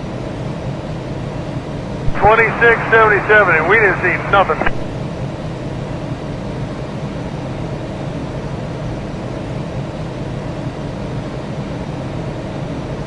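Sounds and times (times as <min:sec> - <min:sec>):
cockpit engine and airflow drone: 0:00.0 - 0:13.0.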